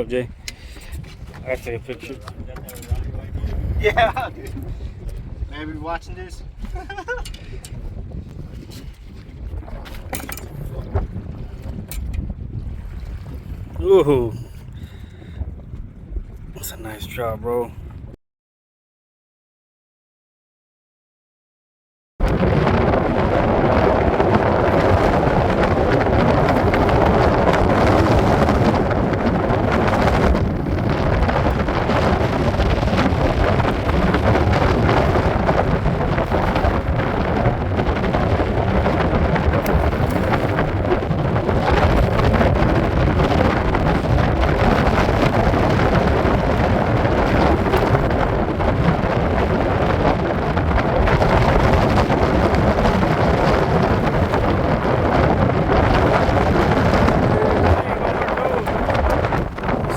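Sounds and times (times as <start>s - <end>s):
wind buffeting microphone: 0.0s - 18.2s, 22.2s - 59.9s.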